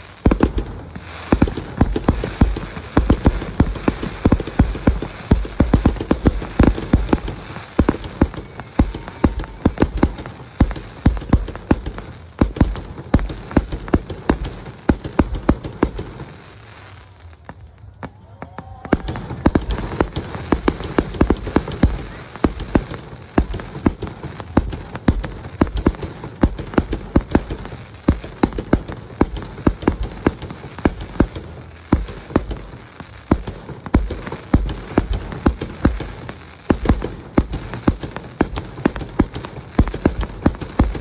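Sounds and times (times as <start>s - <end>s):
fireworks crackling: 0.0s - 41.0s
fireworks popping and banging: 0.0s - 41.0s.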